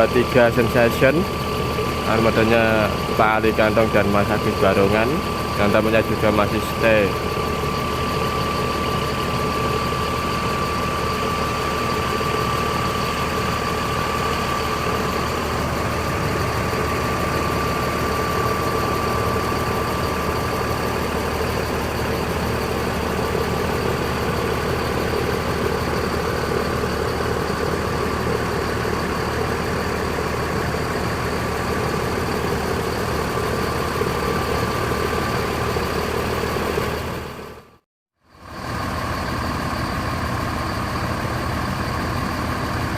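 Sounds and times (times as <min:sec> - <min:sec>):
thin steady whine: 0:00.0 - 0:37.4
diesel engine idling: 0:00.0 - 0:42.9.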